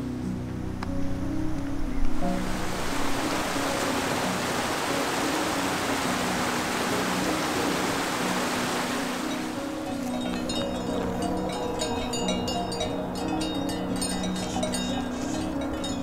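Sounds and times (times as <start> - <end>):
quiet background music: 0.0 - 16.0
stream rushing over rocks: 2.2 - 16.0.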